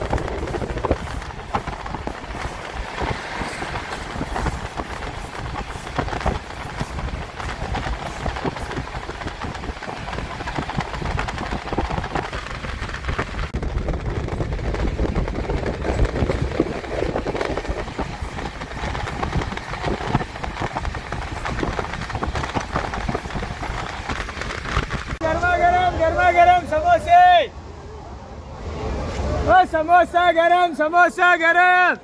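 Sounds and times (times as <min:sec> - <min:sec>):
train rumble and rushing: 0:00.0 - 0:32.0.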